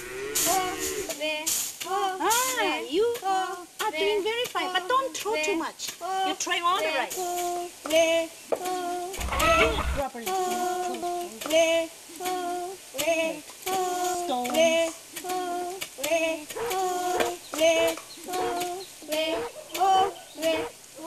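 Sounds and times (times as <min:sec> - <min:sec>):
rhythmic work chant: 0:00.0 - 0:04.8, 0:06.8 - 0:21.0.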